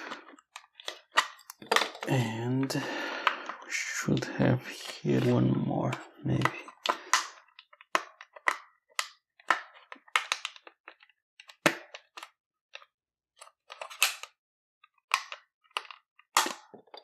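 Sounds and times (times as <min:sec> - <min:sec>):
plastic clips clicking and cracking: 0:00.0 - 0:04.2, 0:05.2 - 0:17.0.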